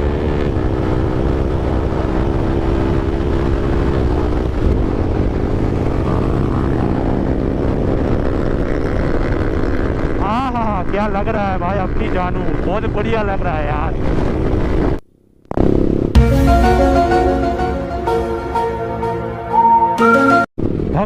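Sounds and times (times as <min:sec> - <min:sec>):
motorcycle engine accelerating: 0:00.0 - 0:19.2.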